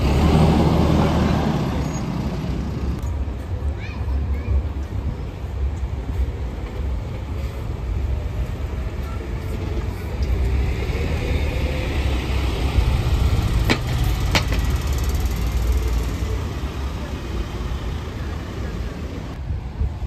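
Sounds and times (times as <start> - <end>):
road noise of passing vehicle: 0.0 - 20.0
vehicle engine rumbling: 0.0 - 20.0.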